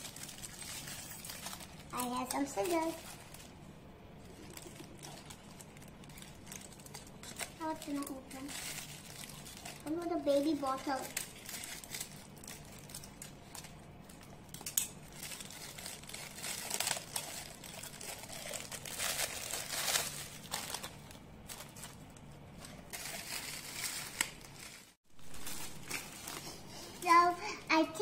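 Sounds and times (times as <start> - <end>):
plastic packaging crinkling: 0.0 - 27.3.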